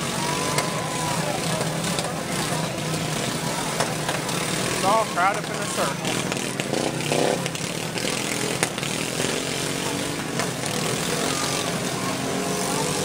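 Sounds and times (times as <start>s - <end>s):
lawn mower engines revving: 0.0s - 13.0s.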